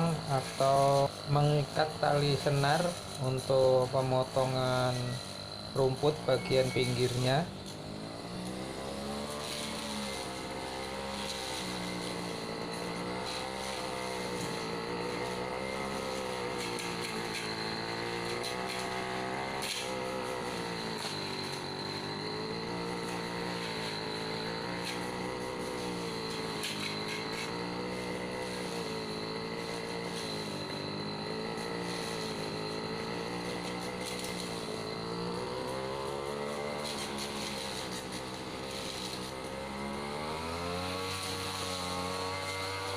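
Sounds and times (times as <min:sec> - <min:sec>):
brush cutter engine revving: 0:00.0 - 0:42.9.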